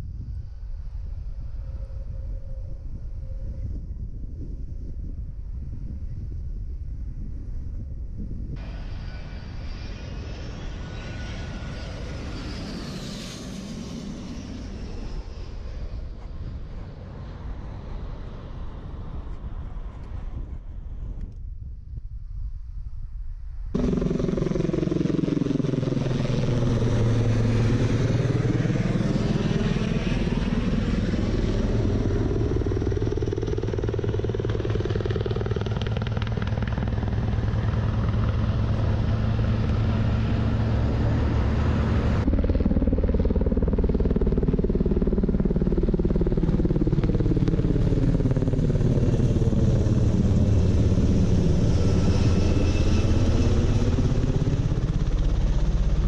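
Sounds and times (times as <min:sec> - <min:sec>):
helicopter flying overhead: 0:00.0 - 0:21.4, 0:23.7 - 0:56.0
helicopter passing low overhead: 0:00.0 - 0:22.8, 0:23.5 - 0:56.0.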